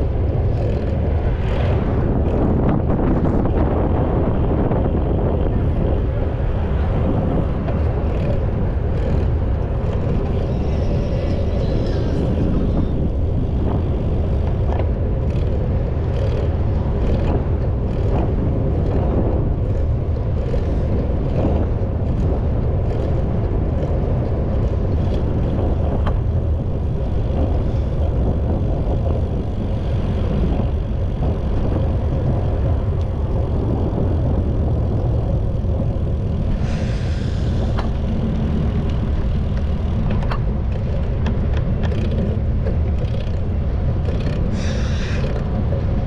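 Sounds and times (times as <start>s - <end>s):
city traffic: 0.0s - 46.0s
wind rumbling on microphone: 0.0s - 46.0s.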